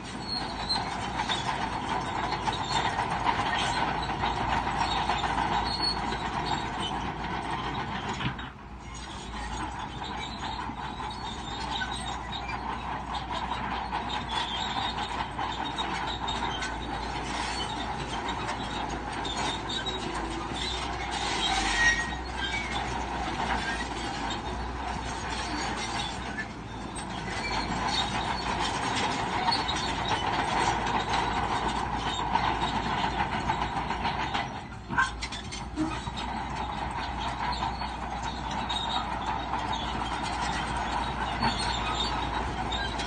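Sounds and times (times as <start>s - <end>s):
bulldozer engine: 0.0s - 43.0s
steel tracks clattering: 0.0s - 43.0s.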